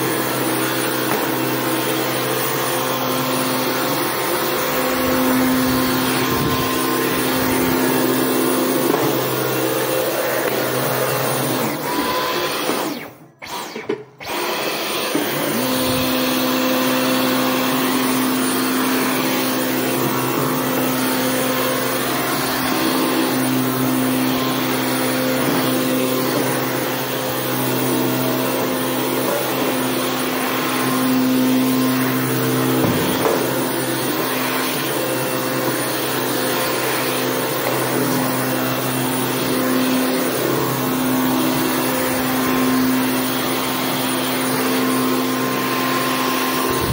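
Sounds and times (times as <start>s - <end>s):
stick vacuum cleaner running: 0.0s - 46.9s.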